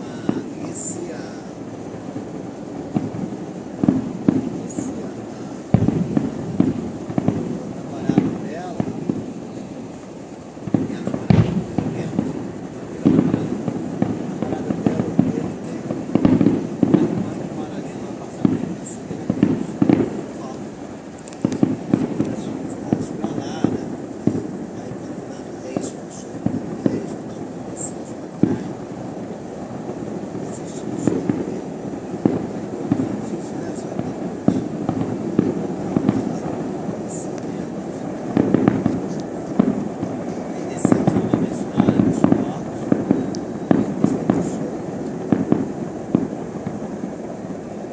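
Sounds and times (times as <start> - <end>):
distant fireworks bangs and pops: 0.0 - 47.9.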